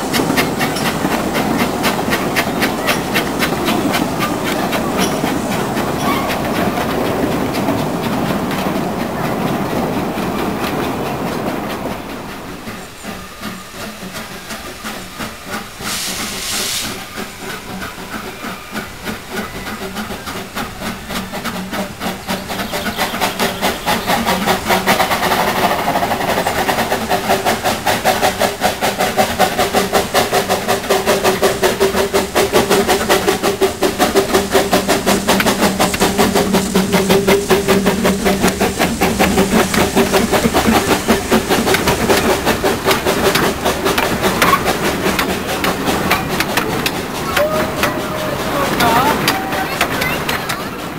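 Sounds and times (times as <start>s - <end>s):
steam hiss: 0.0s - 50.9s
steam locomotive exhaust chuffs: 0.0s - 50.9s
train running past: 0.0s - 50.9s.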